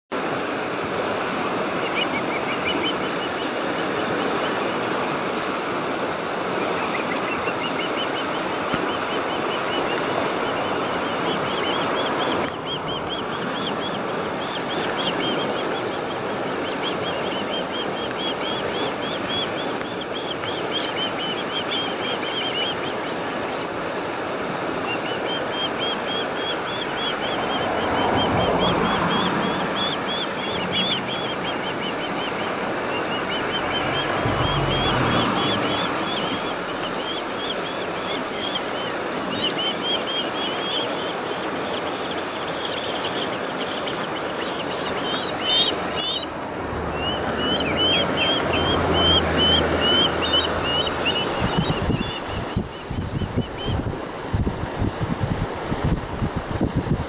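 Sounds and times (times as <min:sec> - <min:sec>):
wind: 0:00.0 - 0:57.0
sea surf: 0:00.1 - 0:57.0
ospreys chirping whistles: 0:01.8 - 0:04.6, 0:06.6 - 0:23.2, 0:24.7 - 0:46.3, 0:47.0 - 0:53.8.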